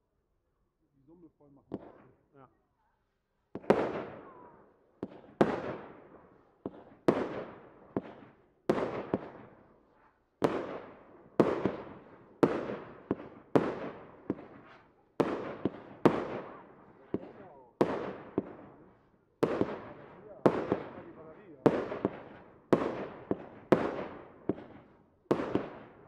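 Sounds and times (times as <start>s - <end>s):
fireworks bangs with crackle: 1.7s - 2.1s, 3.5s - 18.8s, 19.4s - 26.0s.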